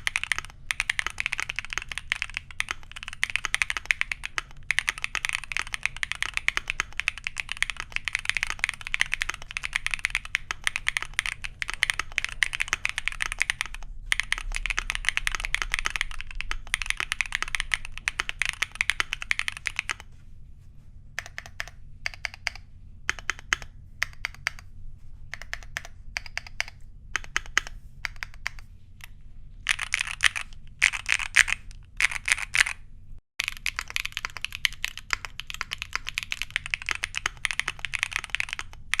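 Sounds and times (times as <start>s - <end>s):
mechanical keyboard typing: 0.0s - 20.1s, 21.2s - 24.7s, 25.3s - 32.8s, 33.4s - 39.0s.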